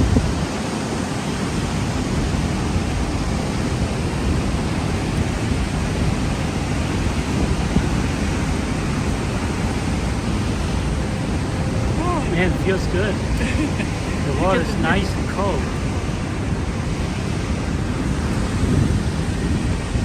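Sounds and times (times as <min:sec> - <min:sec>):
roar of rushing waterfall: 0:00.0 - 0:20.0.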